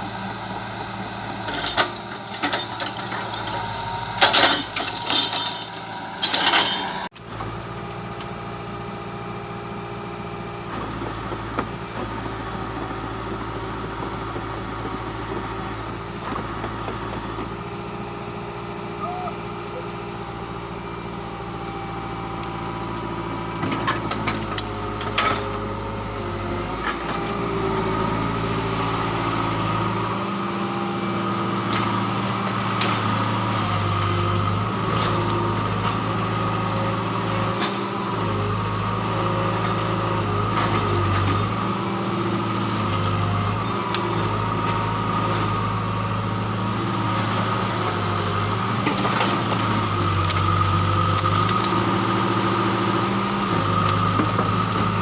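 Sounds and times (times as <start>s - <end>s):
excavator diesel engine working: 0.0s - 55.0s.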